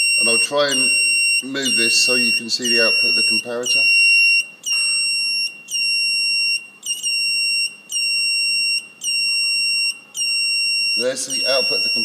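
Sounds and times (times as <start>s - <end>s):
buzzer beeping: 0.0s - 12.0s.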